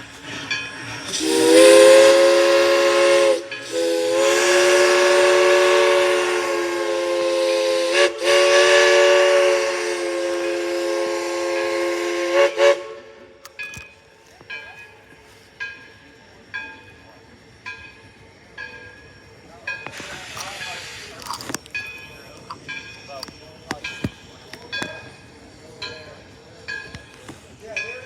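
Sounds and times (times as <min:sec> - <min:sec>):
hissing steam: 0:00.0 - 0:28.0
steam locomotive chime whistle: 0:00.0 - 0:28.0.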